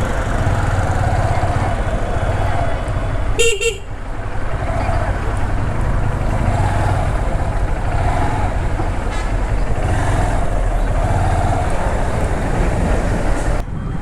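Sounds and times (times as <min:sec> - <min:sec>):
road travel noise: 0:00.0 - 0:14.0
vehicle engine running: 0:00.0 - 0:14.0.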